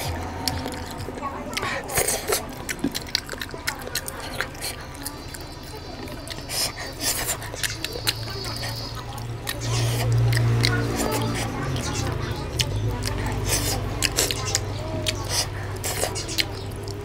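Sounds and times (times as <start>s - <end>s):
steady low hum: 0.0s - 17.0s
wet chewing and lip-smacking: 0.0s - 17.0s.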